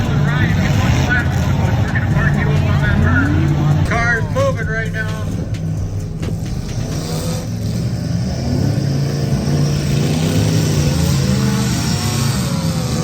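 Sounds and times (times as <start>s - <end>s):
car engines revving loudly: 0.0s - 13.0s.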